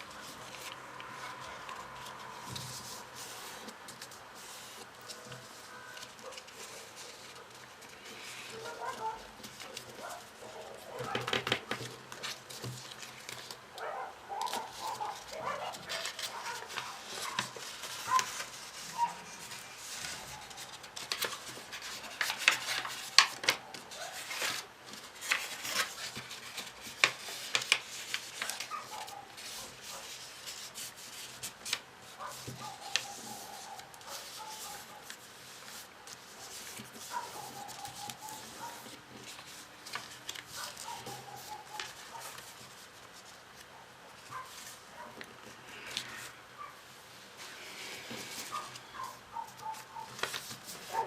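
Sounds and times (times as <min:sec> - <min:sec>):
paper crackling and rustling: 0:00.0 - 0:51.0.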